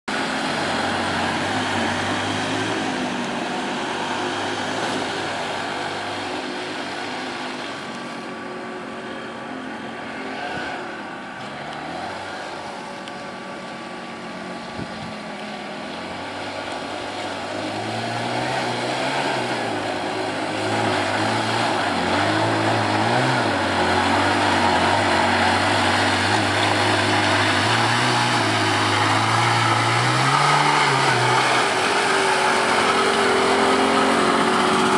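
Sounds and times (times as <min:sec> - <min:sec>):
off-road vehicle engine revving: 0:00.1 - 0:34.9.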